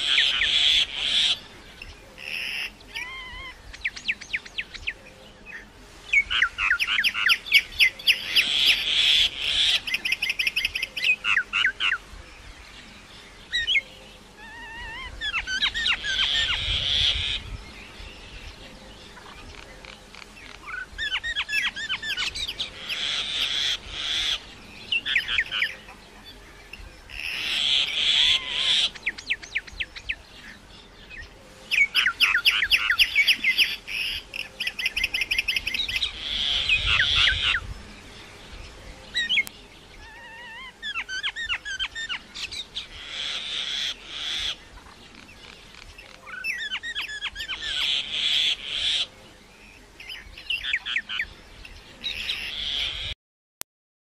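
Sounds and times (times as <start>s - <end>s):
small birds chirping and trilling: 0.0s - 53.2s.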